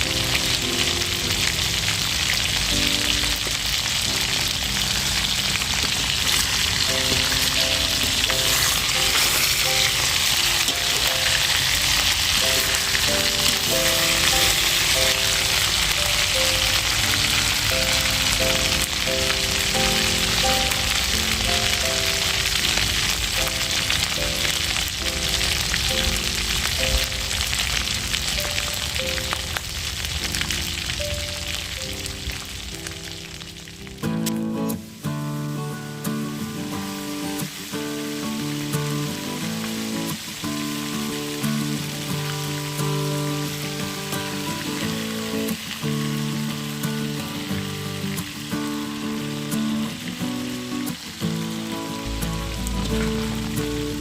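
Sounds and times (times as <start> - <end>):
light background music: 0.0 - 49.9, 50.9 - 54.0
fish sizzling in hot oil: 0.0 - 54.0.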